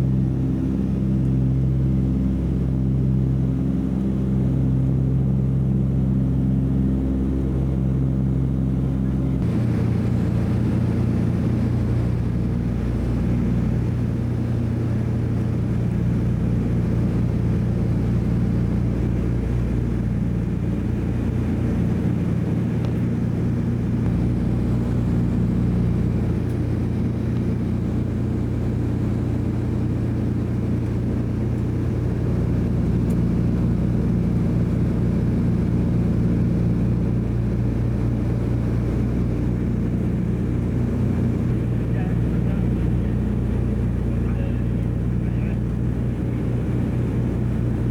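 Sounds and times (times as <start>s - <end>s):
propeller plane engines droning: 0.0s - 47.9s.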